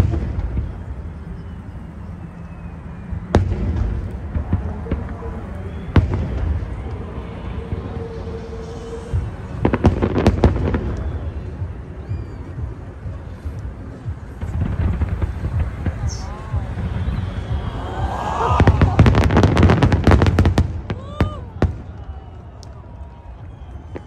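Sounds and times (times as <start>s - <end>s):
continuous low rumble: 0.0s - 24.0s.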